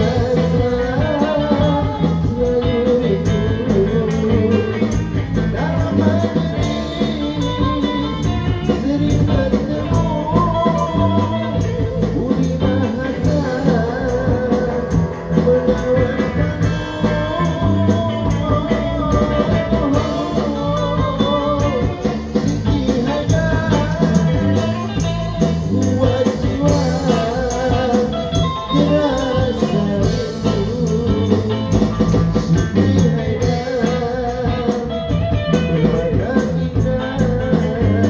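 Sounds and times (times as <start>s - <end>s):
band playing pop song: 0.0s - 38.0s
person singing: 0.0s - 38.0s.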